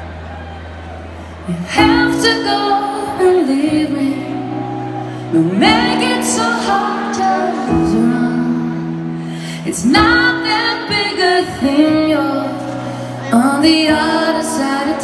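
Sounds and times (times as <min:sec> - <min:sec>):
piano chords: 0:00.0 - 0:15.0
woman singing: 0:01.4 - 0:15.0.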